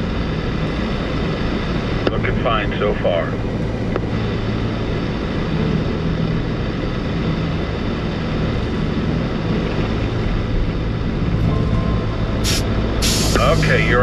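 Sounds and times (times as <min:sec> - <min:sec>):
road and wind noise: 0:00.0 - 0:14.0
vehicle engine hum: 0:00.0 - 0:14.0.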